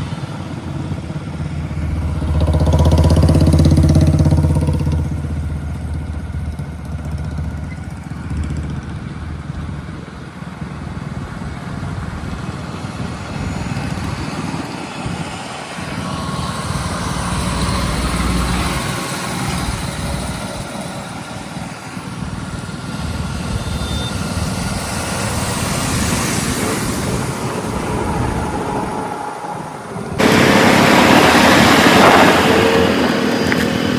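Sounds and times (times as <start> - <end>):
heavy diesel engine rumbling: 0.0 - 33.9.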